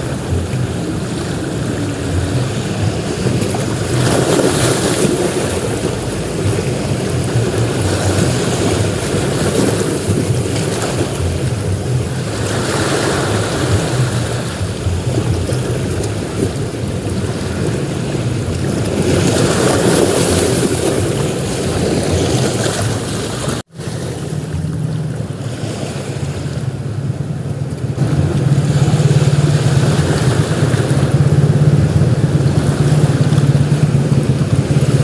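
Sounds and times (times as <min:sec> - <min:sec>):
sea waves breaking on beach: 0:00.0 - 0:35.0.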